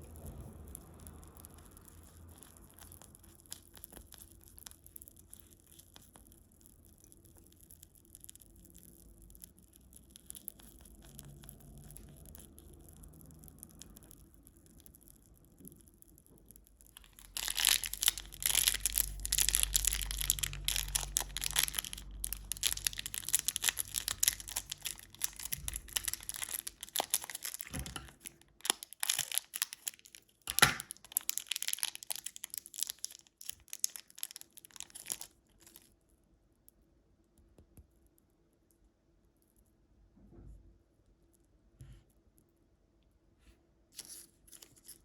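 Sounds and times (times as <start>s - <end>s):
candy wrapper crinkling: 0.2s - 36.1s, 44.0s - 45.0s.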